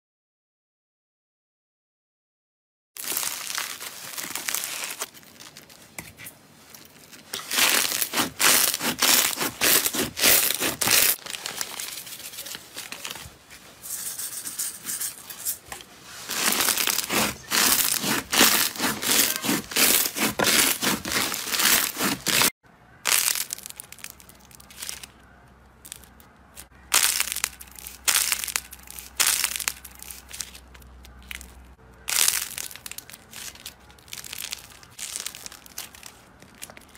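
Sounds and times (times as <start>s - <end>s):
slime crackling and squishing: 3.0s - 13.2s, 16.2s - 22.5s, 23.1s - 25.2s, 25.8s - 36.9s.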